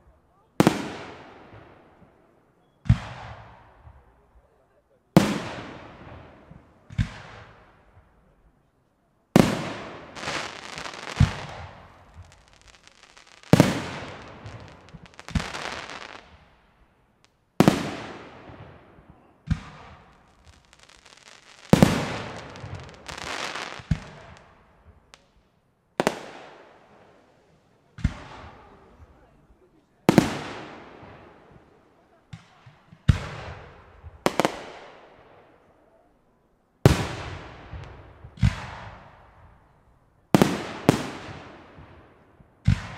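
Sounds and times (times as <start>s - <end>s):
fireworks bursting with bangs: 0.3s - 8.3s, 9.3s - 36.2s, 36.8s - 42.9s.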